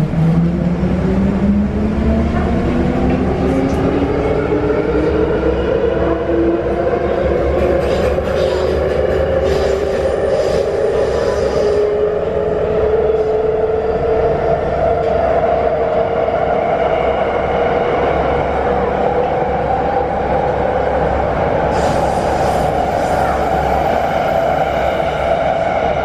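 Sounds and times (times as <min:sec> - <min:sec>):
wheels rumbling on rails: 0:00.0 - 0:26.0.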